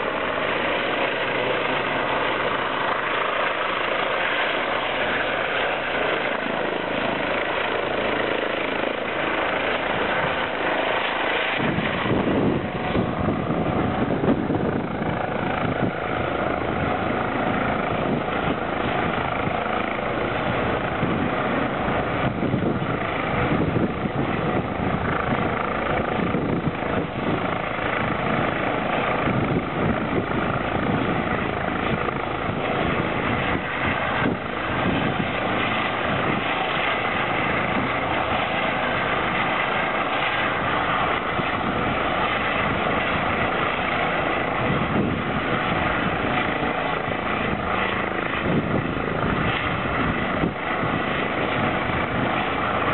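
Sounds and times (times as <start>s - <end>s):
helicopter rotor and turbine whine: 0.0s - 52.9s.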